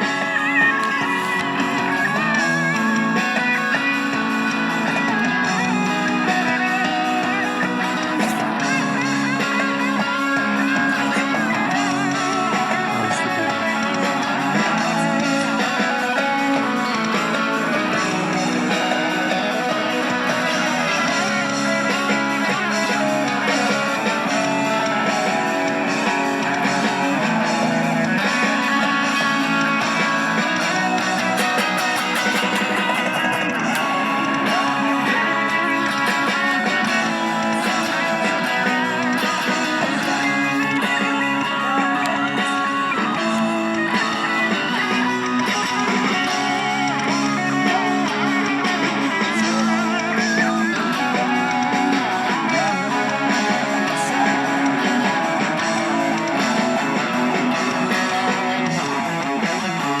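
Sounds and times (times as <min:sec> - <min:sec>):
band playing guitar song: 0:00.0 - 1:00.0.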